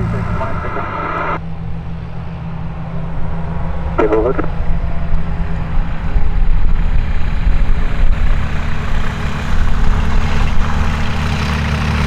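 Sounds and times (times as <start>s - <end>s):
light aircraft engine and propeller: 0.0s - 12.0s.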